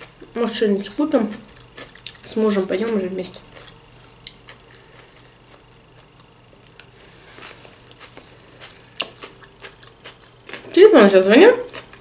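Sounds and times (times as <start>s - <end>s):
soft chewing: 0.0s - 10.8s, 11.6s - 12.0s.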